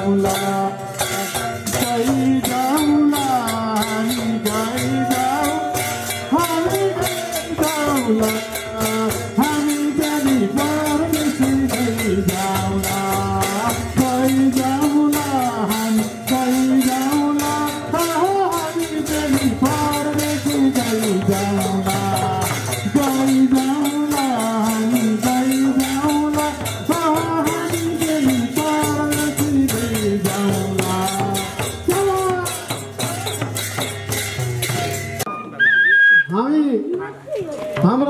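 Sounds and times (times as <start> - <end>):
man singing into microphone: 0.0 - 33.5
hand drums beating: 0.0 - 35.3.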